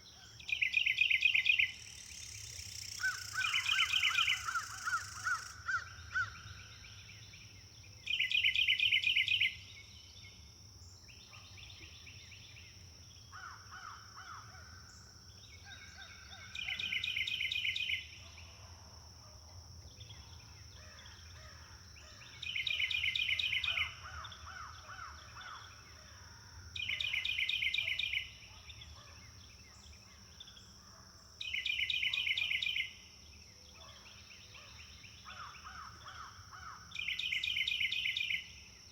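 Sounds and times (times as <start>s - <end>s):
other birds calling quietly: 0.0s - 18.6s, 19.5s - 33.0s.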